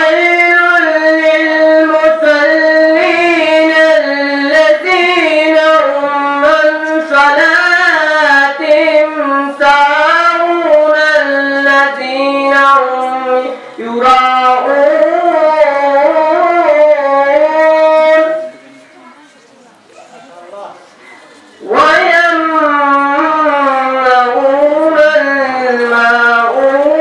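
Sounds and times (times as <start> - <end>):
person reciting melodically: 0.0 - 19.2, 21.3 - 27.0.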